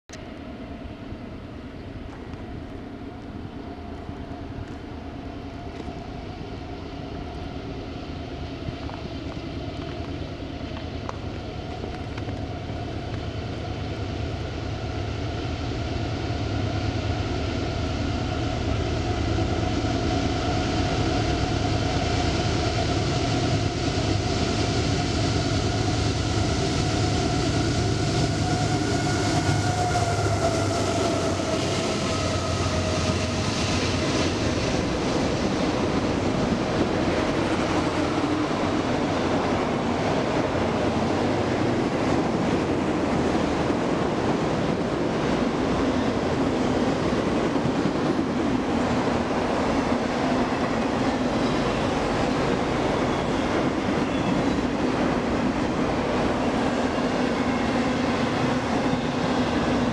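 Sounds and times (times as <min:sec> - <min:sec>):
diesel locomotive rumble and whine: 0:00.1 - 0:59.9.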